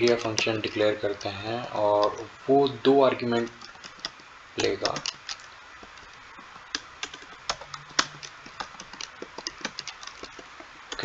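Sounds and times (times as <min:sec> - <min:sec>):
computer keyboard typing: 0:00.0 - 0:01.3, 0:03.4 - 0:11.0.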